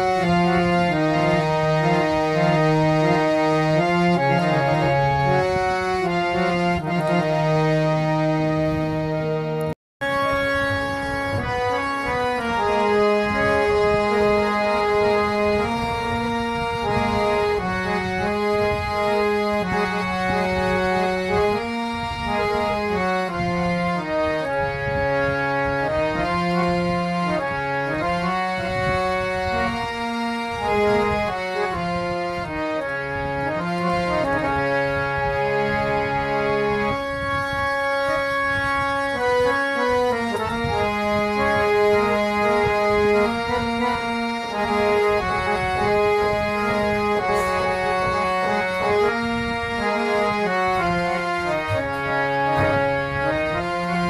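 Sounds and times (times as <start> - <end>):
instrumental background music: 0.0 - 54.0.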